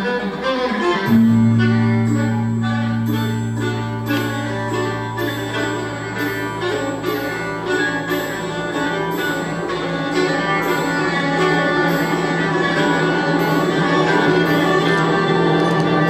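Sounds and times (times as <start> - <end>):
amplified violin with electronics: 0.0 - 16.0
low drone: 1.0 - 16.0.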